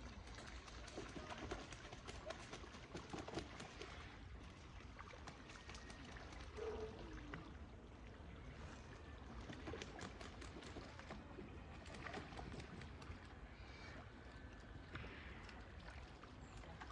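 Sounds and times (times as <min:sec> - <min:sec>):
small waves lapping: 0:00.0 - 0:16.9.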